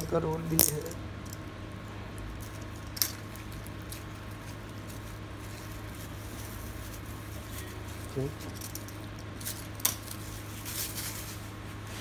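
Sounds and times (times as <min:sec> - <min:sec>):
plastic wrapping rustling: 0:02.4 - 0:12.0.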